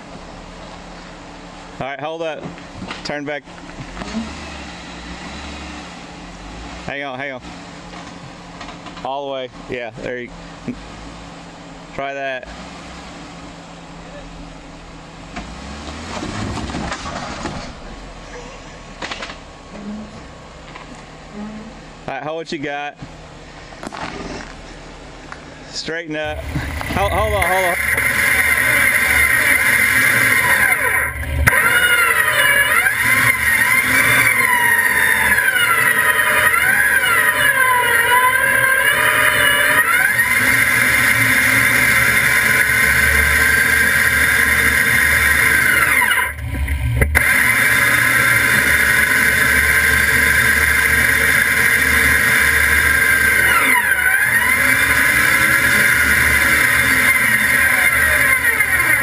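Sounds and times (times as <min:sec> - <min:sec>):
engine droning with wavering whine: 0:00.0 - 0:59.0.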